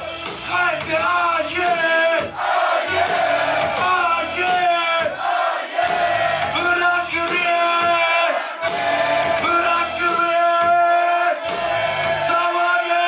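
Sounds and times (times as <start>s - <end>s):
person rapping into microphone: 0.0s - 2.3s, 3.0s - 5.2s, 5.9s - 13.0s
hip-hop beat with synth and bass: 0.0s - 5.2s, 5.8s - 12.6s.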